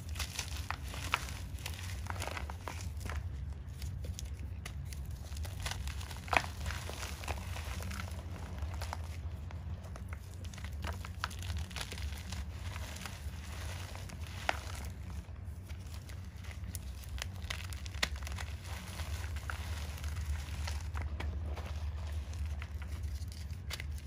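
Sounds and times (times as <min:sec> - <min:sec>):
chalk crunching by hand: 0:00.0 - 0:24.0
low hum: 0:00.0 - 0:24.0.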